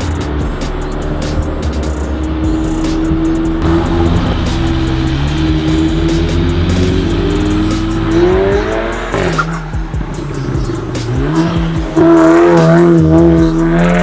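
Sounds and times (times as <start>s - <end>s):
car engine revving: 0.0s - 14.0s
exhaust crackles: 0.0s - 14.0s.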